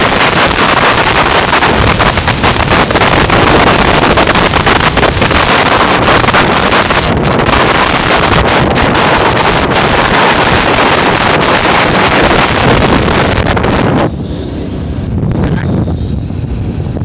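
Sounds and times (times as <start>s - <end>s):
low rumble of ride: 0.0s - 17.0s
wind buffeting microphone: 0.0s - 17.0s.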